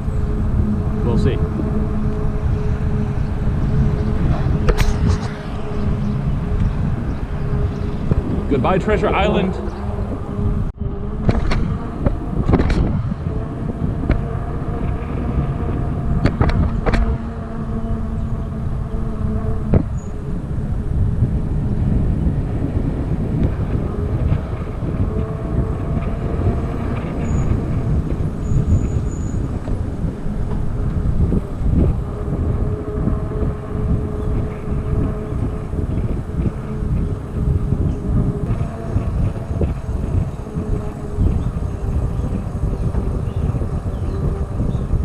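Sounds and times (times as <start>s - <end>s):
faint steady whine: 0.0s - 45.0s
wind rumbling on microphone: 0.0s - 45.0s.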